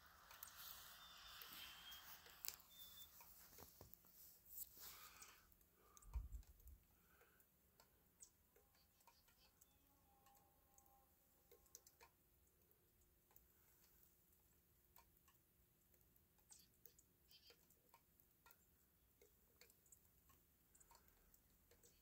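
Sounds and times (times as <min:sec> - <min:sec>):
faint clicks and ticks: 0:00.0 - 0:22.0.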